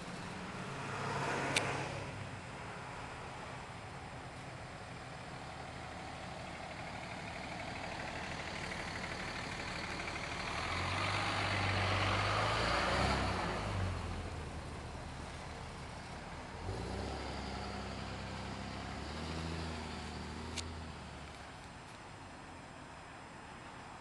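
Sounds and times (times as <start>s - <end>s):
truck engine idling: 2.1s - 24.0s.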